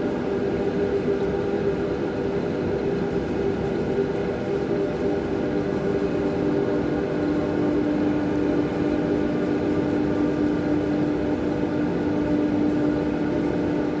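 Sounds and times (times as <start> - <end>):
aquarium equipment humming: 0.0 - 14.0.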